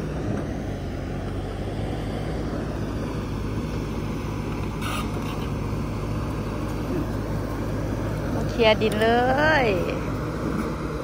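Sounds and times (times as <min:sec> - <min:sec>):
excavator engine running under load: 0:00.0 - 0:11.0.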